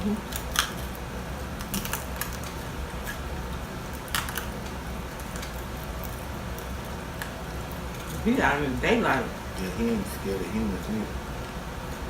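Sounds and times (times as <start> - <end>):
people eating and chewing: 0.0 - 11.1
steady low hum: 0.0 - 12.0.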